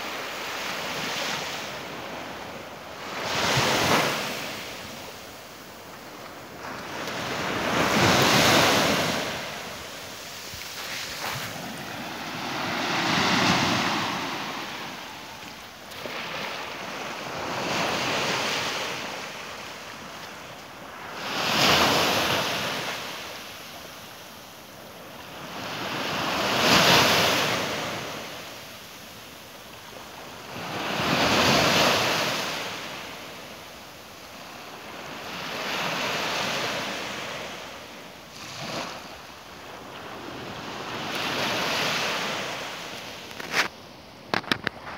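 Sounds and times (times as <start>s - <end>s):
waves breaking on a beach: 0.0s - 44.9s.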